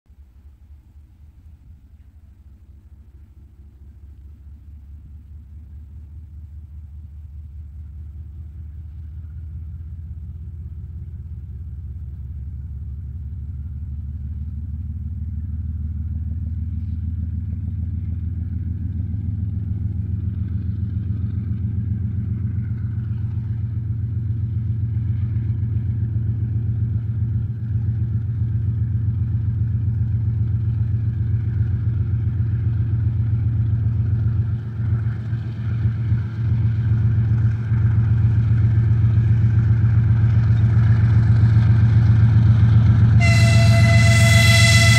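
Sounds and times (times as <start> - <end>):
diesel locomotive engine throbbing: 0.1 - 44.9.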